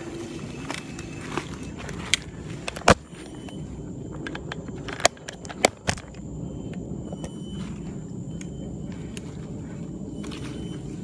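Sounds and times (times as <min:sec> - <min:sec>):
electric scooter rumble: 0:00.0 - 0:11.0.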